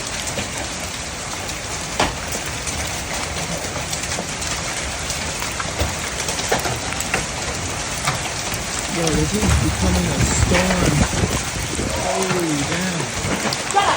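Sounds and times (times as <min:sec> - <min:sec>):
hailstones knocking: 0:00.0 - 0:13.9
rain and hail downpour: 0:00.0 - 0:13.9.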